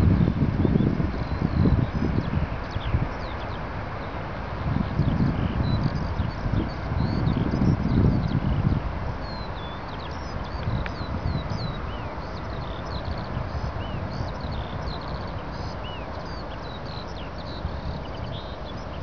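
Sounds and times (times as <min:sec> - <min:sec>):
small birds chirping: 0:00.2 - 0:19.0.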